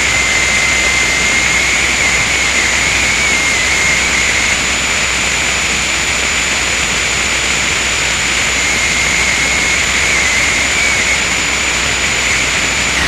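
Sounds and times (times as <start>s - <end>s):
loud dense hiss: 0.0s - 13.0s
thin high whine: 0.0s - 13.0s.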